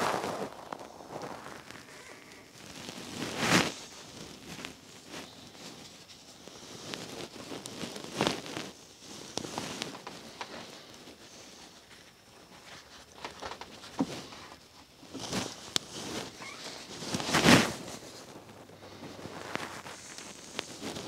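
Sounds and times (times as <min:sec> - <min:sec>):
paper towel rustling: 0:00.0 - 0:21.0.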